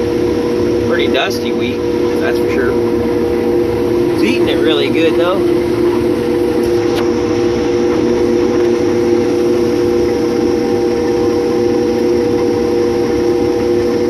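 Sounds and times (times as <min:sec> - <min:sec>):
combine harvester droning: 0:00.0 - 0:14.0.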